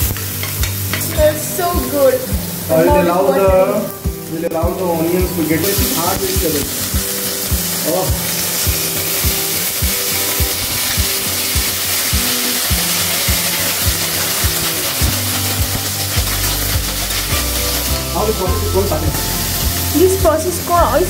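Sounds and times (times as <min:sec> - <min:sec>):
background music with steady beat: 0:00.0 - 0:21.0
vegetables sizzling in hot oil: 0:00.0 - 0:21.0.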